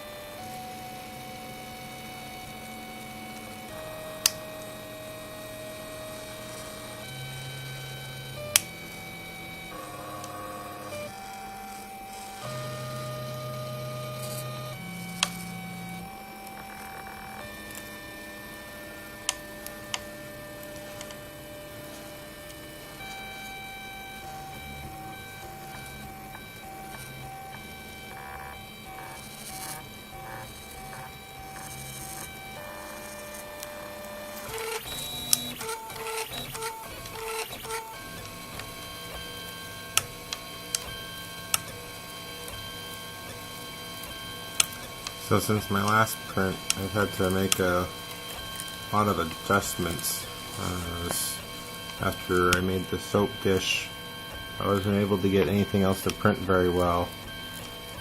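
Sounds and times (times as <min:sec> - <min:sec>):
stepper motors whining: 0:00.0 - 0:58.0.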